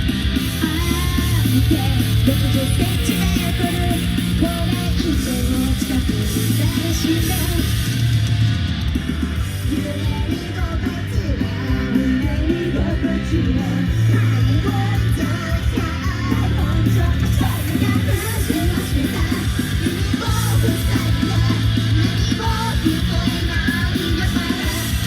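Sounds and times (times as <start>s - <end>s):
loud live rock song: 0.0s - 25.0s
person singing: 0.6s - 7.9s, 9.6s - 25.0s.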